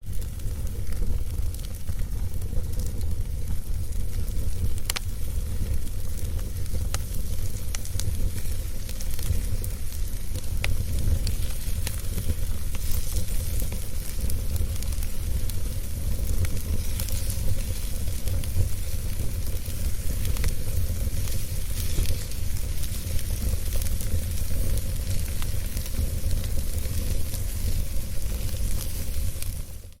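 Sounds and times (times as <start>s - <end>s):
fire crackling: 0.0s - 30.0s.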